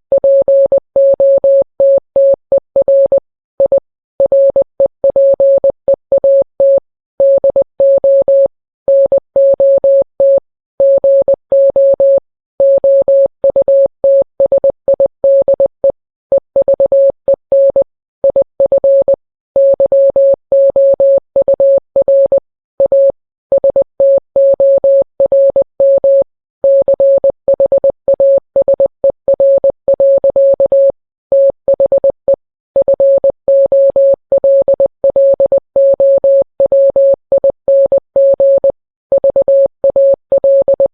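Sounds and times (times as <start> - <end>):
morse code beep tone: 0.1 - 40.9.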